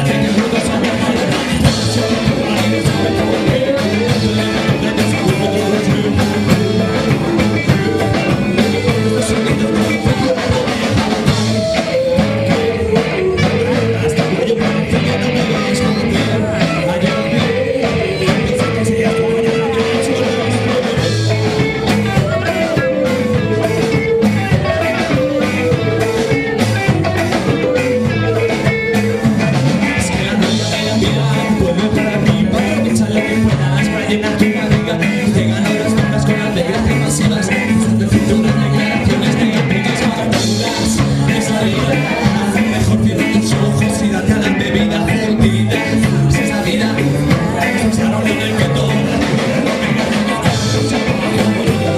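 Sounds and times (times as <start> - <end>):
live band playing ska rock: 0.0 - 51.9.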